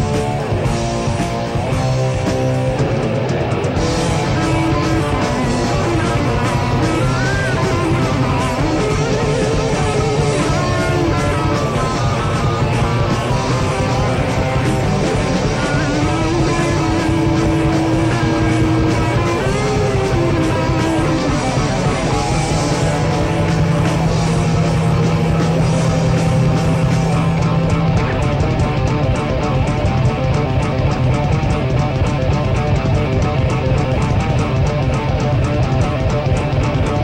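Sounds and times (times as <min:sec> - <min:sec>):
bass guitar: 0:00.0 - 0:37.0
distorted electric guitars: 0:00.0 - 0:37.0.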